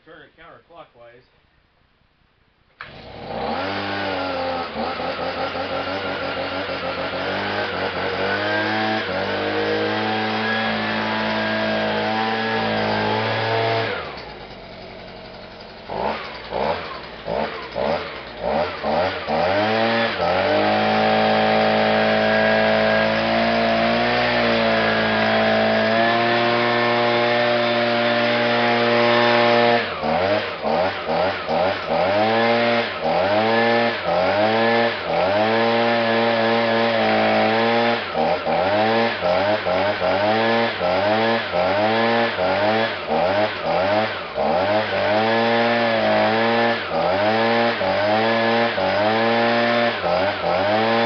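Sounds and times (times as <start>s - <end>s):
leaf blower engine revving: 2.8s - 51.0s.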